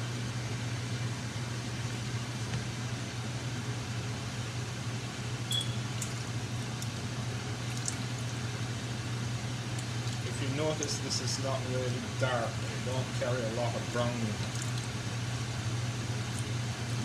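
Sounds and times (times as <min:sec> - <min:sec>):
kitchen fan humming: 0:00.0 - 0:17.0.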